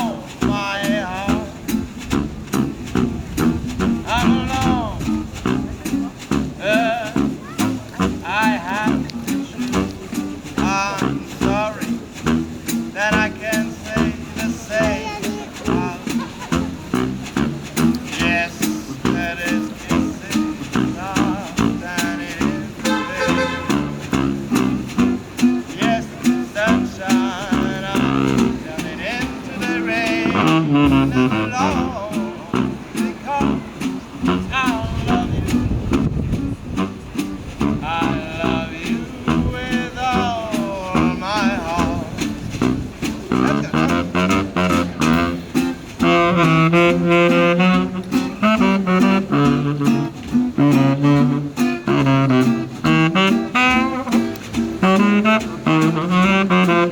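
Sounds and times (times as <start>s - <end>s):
rhythmic accompaniment: 0.0s - 56.9s
saxophone melody: 0.0s - 56.9s.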